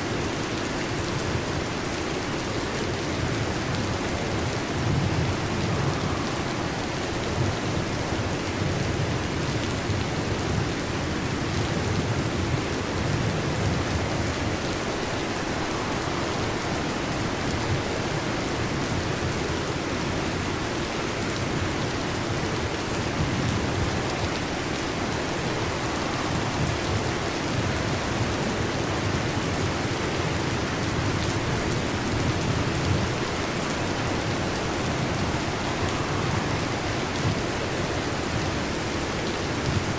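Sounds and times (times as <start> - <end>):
heavy rain on a metal roof: 0.0 - 39.9
thunder rumbling: 3.2 - 19.9, 22.5 - 39.9.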